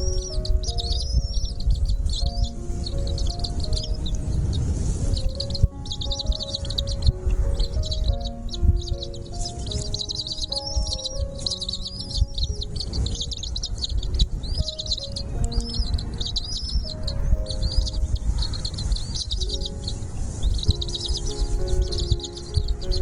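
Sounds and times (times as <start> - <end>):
small birds chirping: 0.0 - 23.0
soft background music: 0.0 - 23.0.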